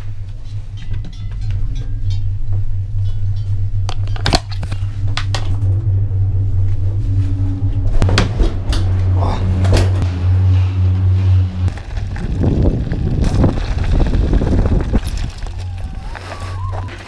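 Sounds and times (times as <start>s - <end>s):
gondola cabin rumble: 0.0s - 17.0s.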